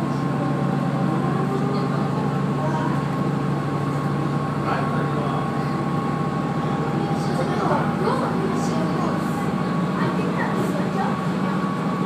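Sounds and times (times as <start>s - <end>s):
diesel railcar engine humming: 0.0s - 12.0s.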